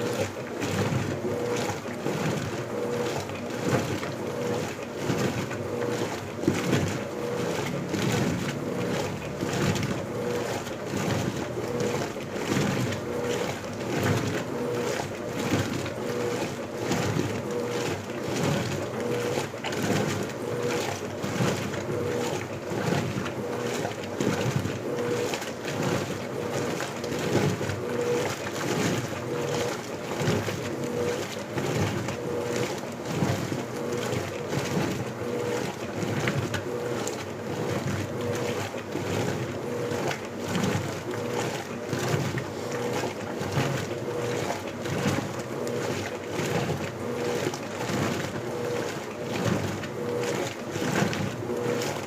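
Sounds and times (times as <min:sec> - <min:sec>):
faint motor hum: 0:00.0 - 0:52.0
water and clothes sloshing: 0:00.0 - 0:52.0.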